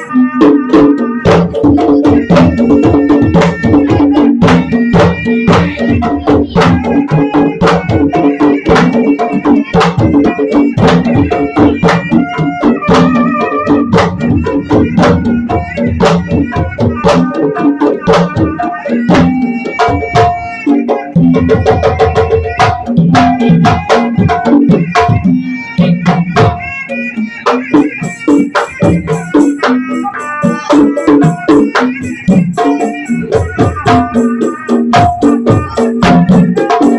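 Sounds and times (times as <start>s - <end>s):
percussion-heavy music: 0.0s - 36.9s.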